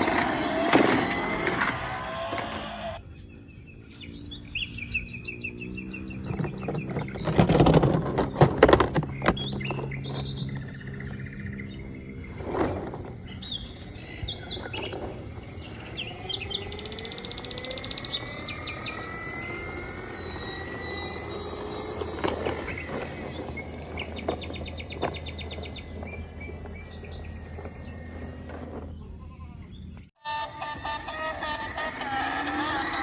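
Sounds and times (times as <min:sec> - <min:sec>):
motor rising in pitch: 0:00.0 - 0:29.2, 0:29.9 - 0:33.0
birds chirping and trilling: 0:00.0 - 0:33.0
outdoor background noise: 0:00.0 - 0:33.0.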